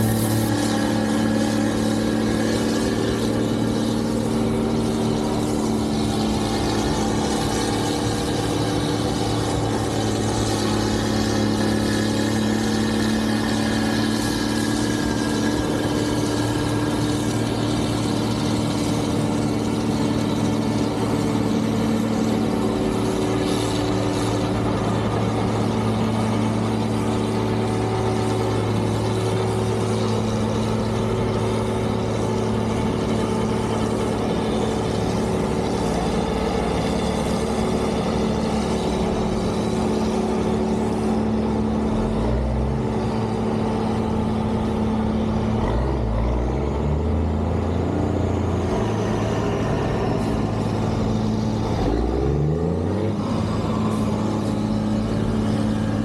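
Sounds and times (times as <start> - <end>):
snow removal machine engine humming: 0.0 - 56.0.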